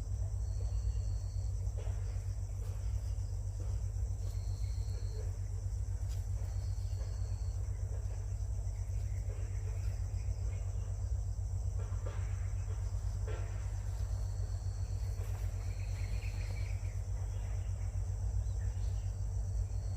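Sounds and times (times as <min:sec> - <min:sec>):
insects buzzing: 0:00.0 - 0:19.9
steady low rumble: 0:00.0 - 0:19.9.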